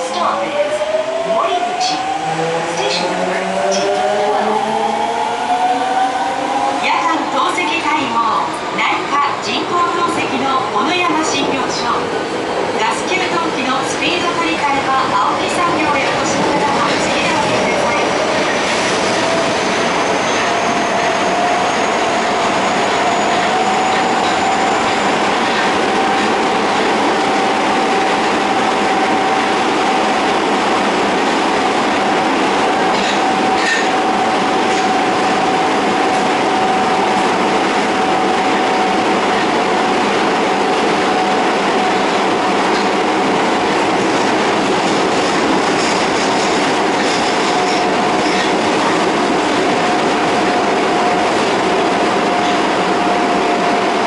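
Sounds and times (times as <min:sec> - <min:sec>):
subway motor whine: 0:00.0 - 0:54.0
wheels rumbling on rails: 0:00.8 - 0:54.0.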